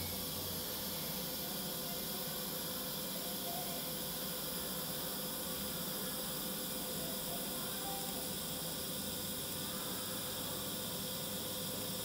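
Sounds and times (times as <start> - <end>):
faint constant tone: 0.0 - 12.0
welding arc hissing: 0.0 - 12.0.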